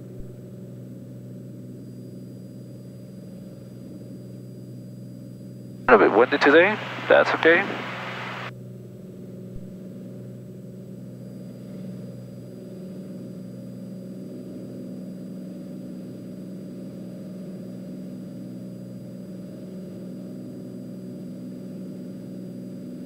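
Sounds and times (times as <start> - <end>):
aircraft engine drone: 0.0 - 23.0.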